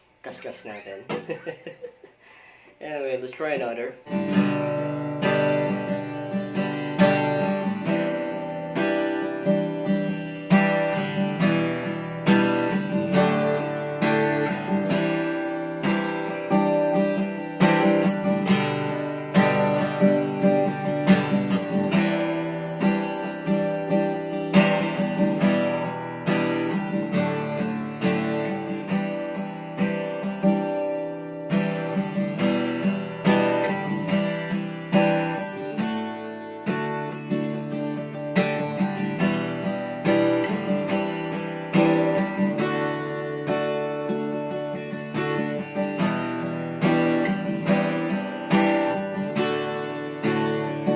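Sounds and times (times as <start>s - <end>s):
acoustic guitar strumming: 0.0s - 50.9s.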